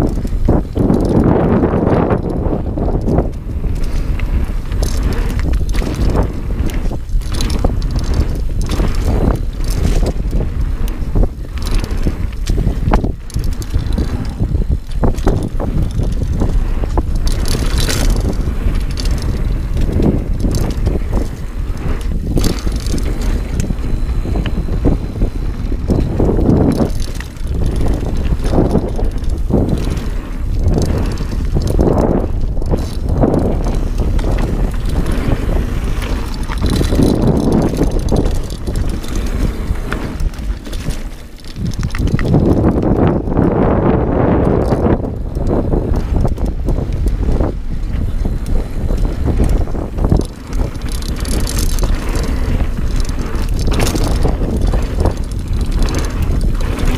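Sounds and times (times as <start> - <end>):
bike knocks and rattles: 0.0 - 56.9
bike tyres rumbling on dirt: 0.0 - 56.9.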